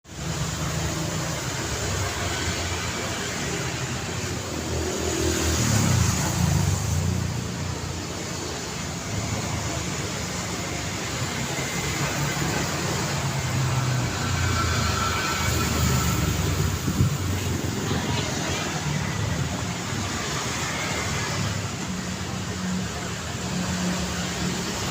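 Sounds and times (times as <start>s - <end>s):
cars passing on road: 0.0s - 24.9s.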